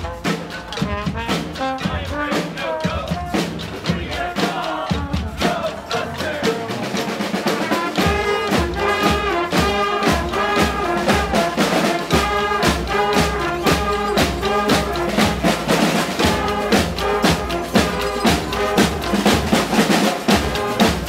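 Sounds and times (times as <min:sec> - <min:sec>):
drums keeping steady beat: 0:00.0 - 0:21.0
trumpets and trombones: 0:00.0 - 0:21.0.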